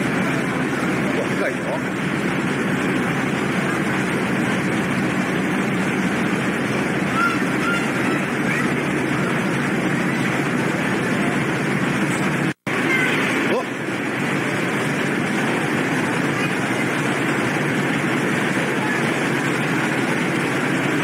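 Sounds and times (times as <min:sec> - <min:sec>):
ferry engines and machinery running: 0:00.0 - 0:21.0.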